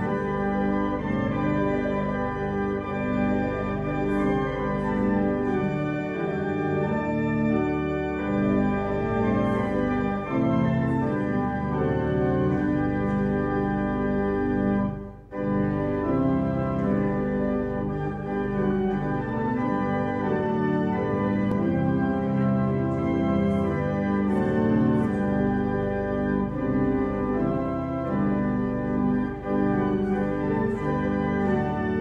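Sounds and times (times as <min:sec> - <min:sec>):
church organ playing a hymn: 0:00.0 - 0:32.0.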